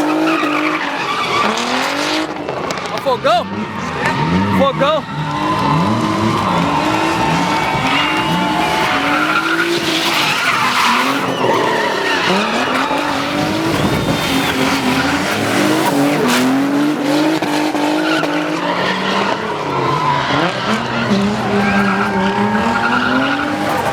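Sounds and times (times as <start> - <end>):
car engine revving: 0.0 - 23.9
tyres screeching: 0.0 - 23.9.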